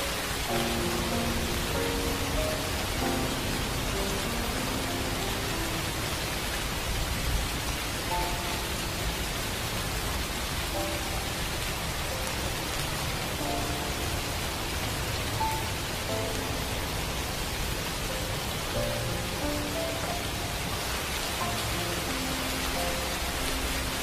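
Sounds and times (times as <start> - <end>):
faint soft music notes: 0.0 - 6.9, 7.7 - 24.0
light rain hissing: 0.0 - 24.0.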